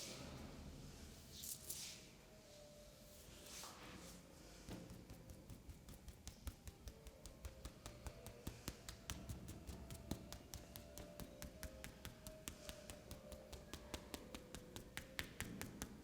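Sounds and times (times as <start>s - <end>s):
faint soft background music: 0.0s - 16.0s.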